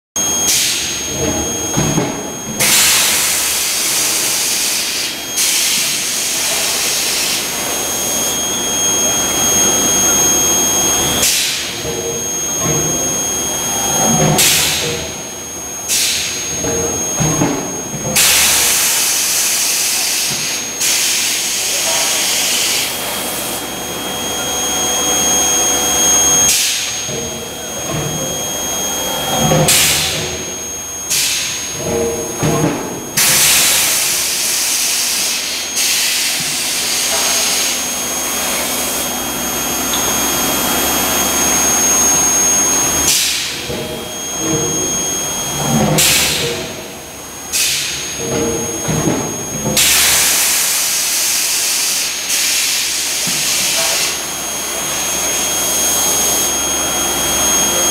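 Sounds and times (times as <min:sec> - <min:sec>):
high-pitched machine whine: 0:00.2 - 0:57.9.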